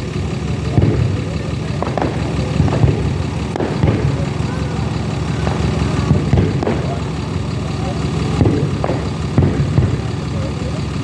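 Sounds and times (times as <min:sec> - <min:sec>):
crowd voices: 0:00.0 - 0:11.0
fireworks bangs: 0:00.0 - 0:11.0
low rumble: 0:00.0 - 0:11.0.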